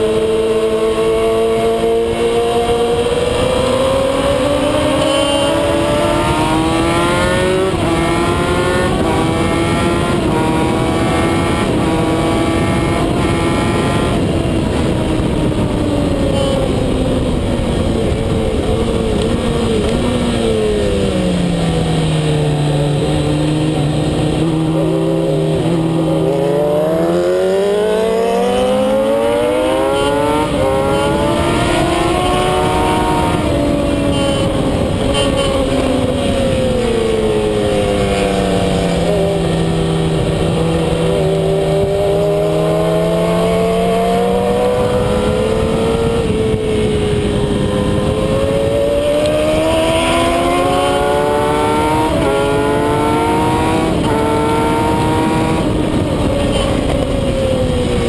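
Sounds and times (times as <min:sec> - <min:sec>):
motorcycle engine at racing speed: 0:00.0 - 0:58.0
wind rush over microphone: 0:00.0 - 0:58.0.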